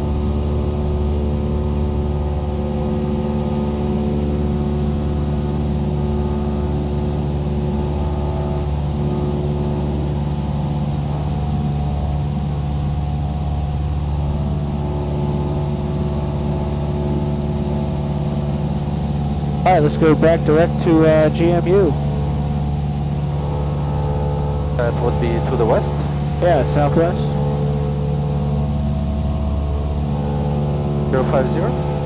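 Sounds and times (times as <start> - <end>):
propeller plane engine drone: 0.0 - 32.0.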